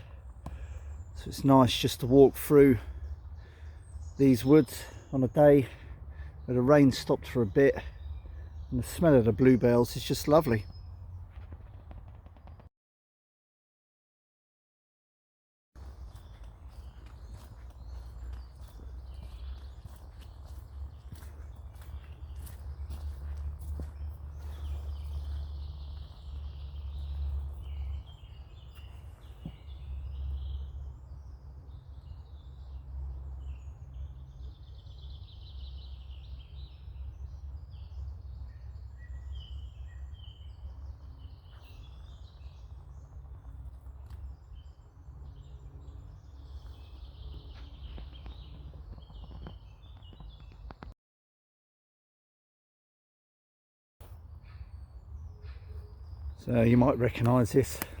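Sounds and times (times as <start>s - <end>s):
songbirds singing: 0.0s - 12.7s, 15.8s - 51.0s, 54.0s - 58.0s.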